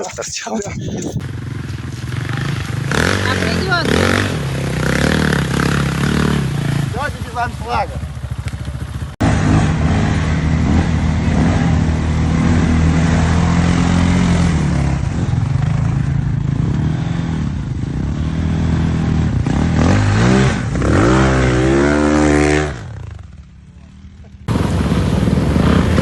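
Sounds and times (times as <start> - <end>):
motorcycle engine revving: 1.0 - 26.0.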